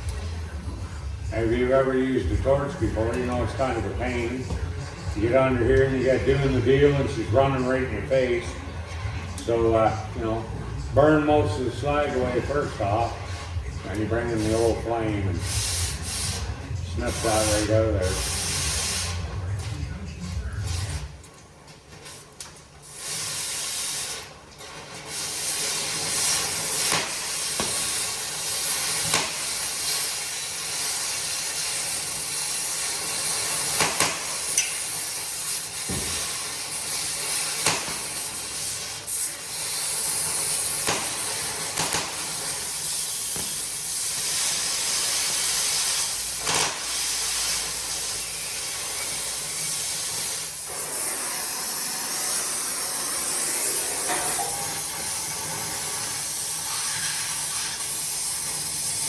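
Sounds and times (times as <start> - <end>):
cutting torch hissing: 0.0 - 21.3, 22.1 - 59.0
molten metal crackles and pops: 1.3 - 59.0.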